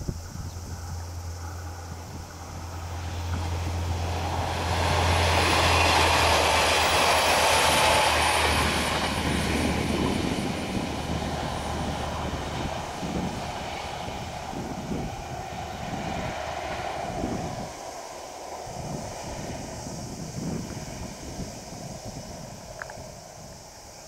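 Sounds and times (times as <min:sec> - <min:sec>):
train passing by: 0:00.0 - 0:24.0.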